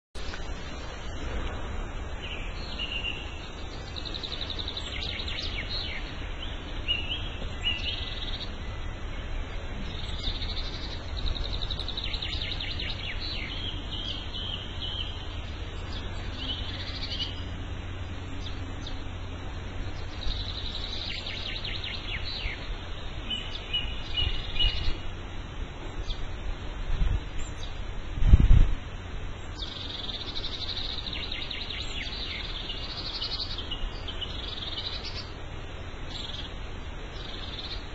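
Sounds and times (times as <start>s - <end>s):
songbirds chirping: 0.2s - 37.9s.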